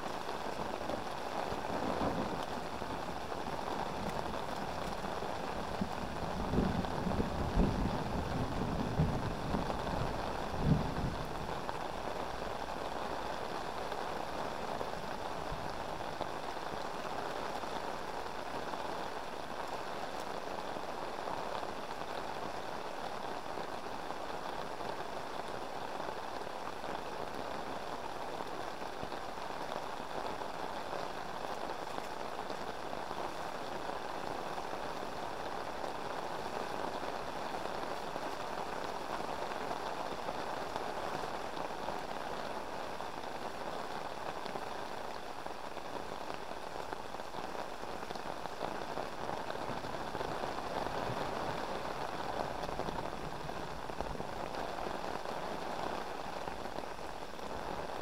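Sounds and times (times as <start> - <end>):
heavy rain on a river: 0.0 - 58.0.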